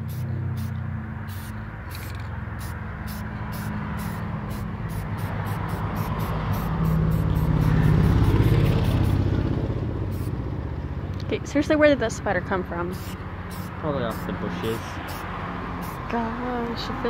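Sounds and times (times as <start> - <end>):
passing vehicle engine: 0.0 - 17.0.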